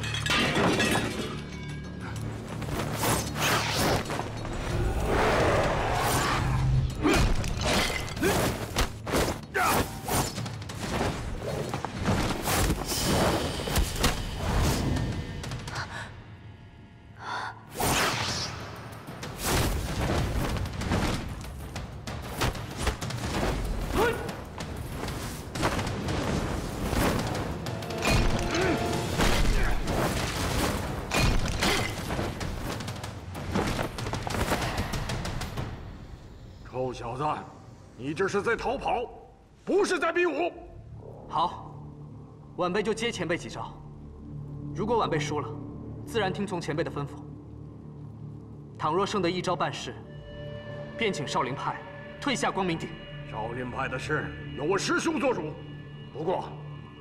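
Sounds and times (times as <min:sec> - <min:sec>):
dramatic background music: 0:00.0 - 0:57.0.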